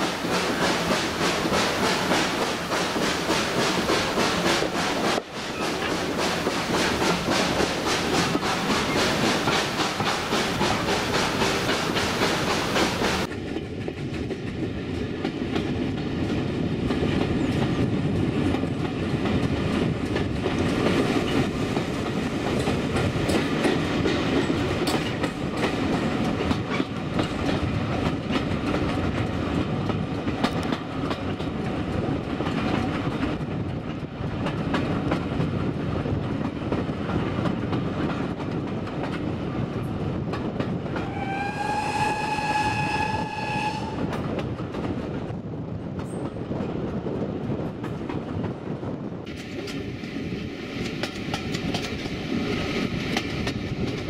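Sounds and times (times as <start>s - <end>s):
wheels clicking over rail joints: 0.0s - 41.2s, 44.0s - 54.0s
train running noise: 0.0s - 54.0s.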